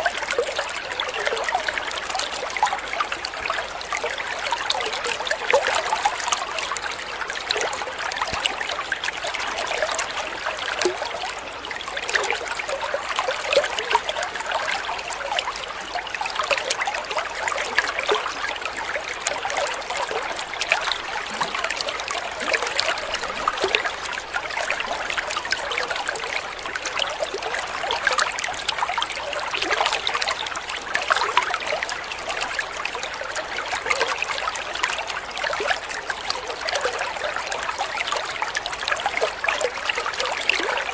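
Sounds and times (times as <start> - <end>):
water trickling in a stream: 0.0 - 40.9.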